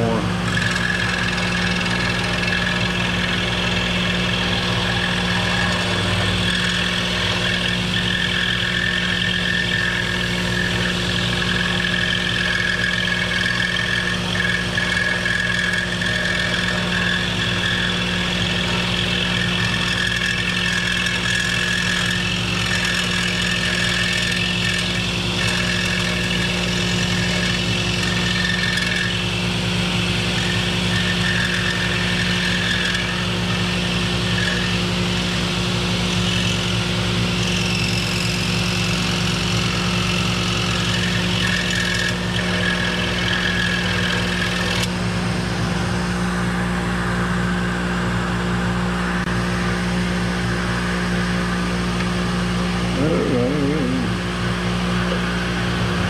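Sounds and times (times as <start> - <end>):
scroll saw cutting wood: 0.0 - 44.9, 50.6 - 56.0
dust extractor running: 0.0 - 56.0.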